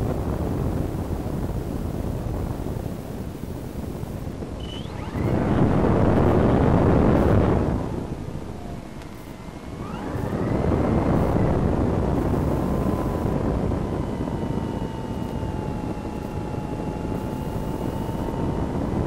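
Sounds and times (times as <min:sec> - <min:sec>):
electric motor and propeller whine: 0:00.0 - 0:19.0
wind rushing past microphone: 0:00.0 - 0:19.0.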